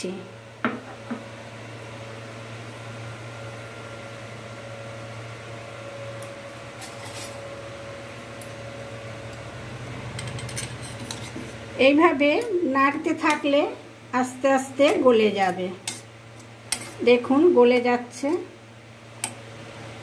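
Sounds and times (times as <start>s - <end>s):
stove low hum: 0.0s - 20.0s.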